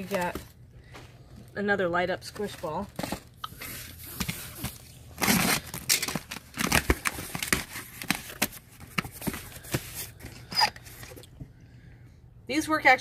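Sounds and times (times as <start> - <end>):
cardboard packages rustling: 0.0 - 1.4, 2.1 - 11.4.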